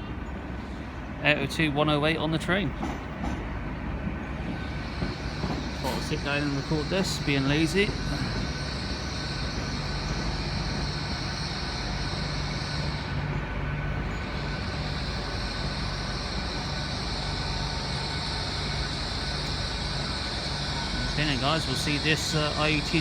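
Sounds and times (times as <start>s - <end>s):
train engine hum: 0.0s - 23.0s
high hiss: 4.3s - 23.0s.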